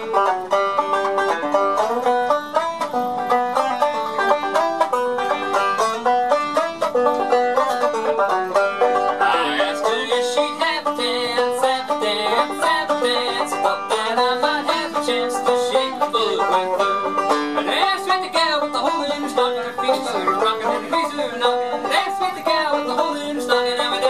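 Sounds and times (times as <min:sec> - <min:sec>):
banjo picking: 0:00.0 - 0:24.0.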